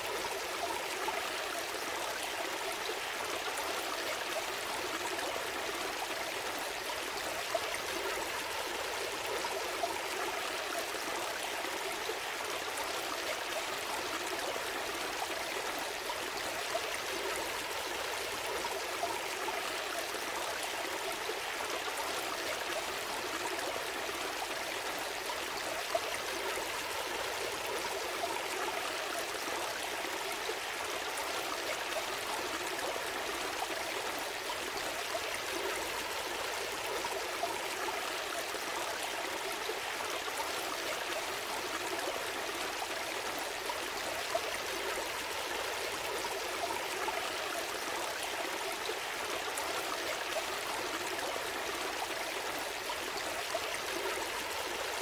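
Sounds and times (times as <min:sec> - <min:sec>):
stream flowing over stones: 0:00.0 - 0:55.0.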